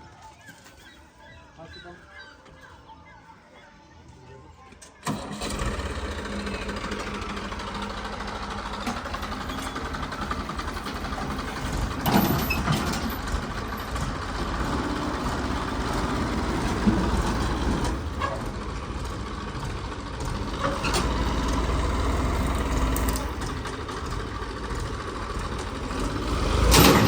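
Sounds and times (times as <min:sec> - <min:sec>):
tractor diesel engine running: 0:04.8 - 0:27.0
engine knock: 0:05.1 - 0:27.0.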